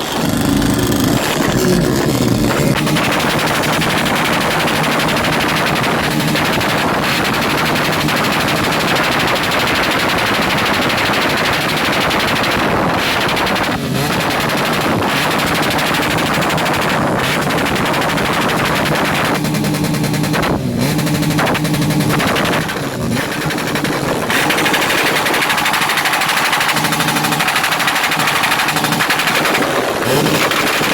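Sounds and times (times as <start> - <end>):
motorcycle engine at rev limiter: 0.0 - 30.9.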